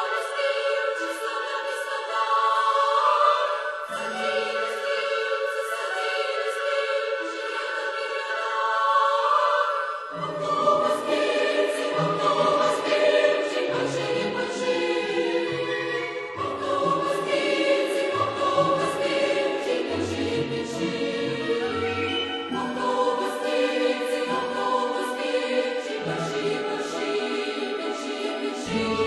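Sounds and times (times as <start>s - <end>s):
choir singing sustained chords: 0.0s - 29.0s.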